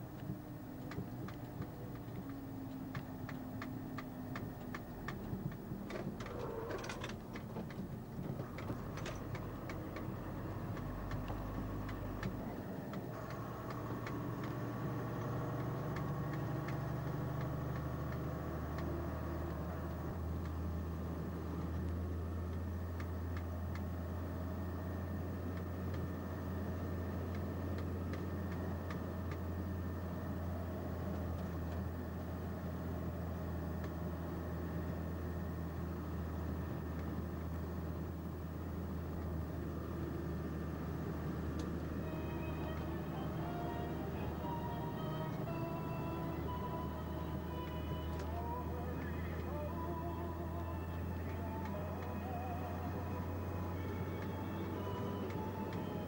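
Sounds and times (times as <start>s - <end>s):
diesel engine running: 0.0s - 56.0s
light sharp ticks: 0.1s - 20.8s, 21.4s - 40.2s, 40.8s - 41.9s, 47.5s - 50.0s, 50.6s - 56.0s.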